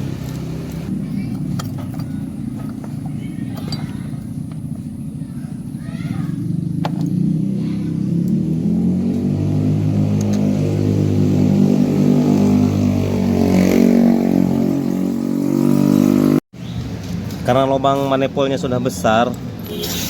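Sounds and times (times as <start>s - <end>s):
small motorcycle engine revving: 0.0s - 16.4s, 19.7s - 20.0s.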